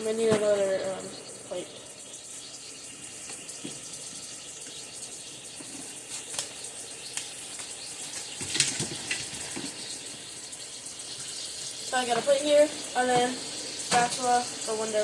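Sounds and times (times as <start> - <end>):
steaks sizzling in a hot pan: 1.9 - 15.0.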